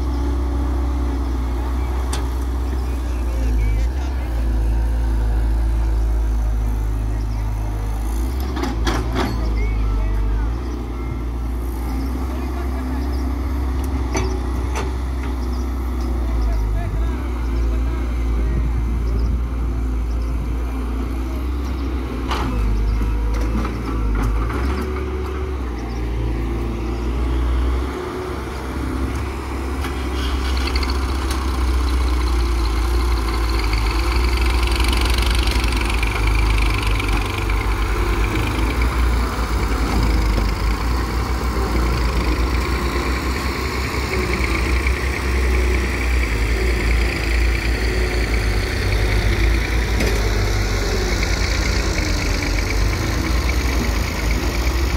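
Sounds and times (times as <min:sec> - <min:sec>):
excavator diesel engine: 0:00.0 - 0:54.9
tractor diesel engine: 0:00.0 - 0:54.9.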